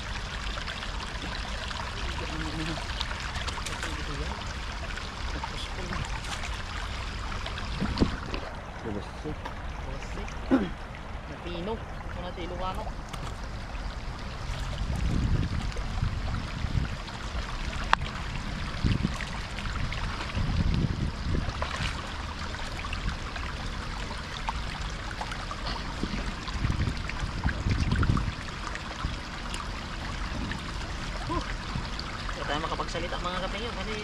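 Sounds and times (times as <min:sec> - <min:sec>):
shallow river flowing: 0:00.0 - 0:34.0
low gusty rumbles: 0:02.1 - 0:22.3, 0:25.4 - 0:32.9.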